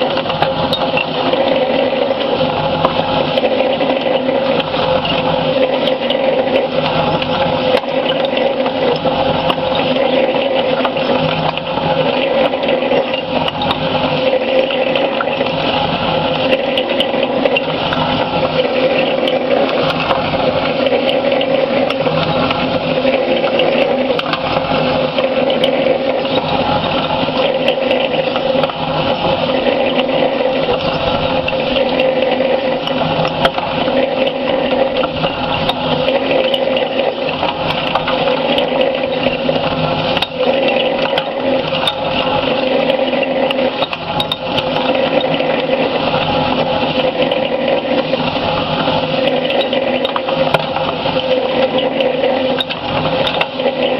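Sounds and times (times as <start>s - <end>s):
steel balls tumbling in mixer drum: 0.0s - 53.9s.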